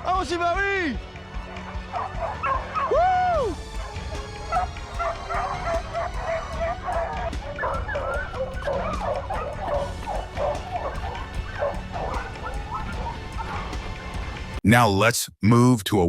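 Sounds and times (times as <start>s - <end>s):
dogs barking excitedly: 1.4s - 14.5s.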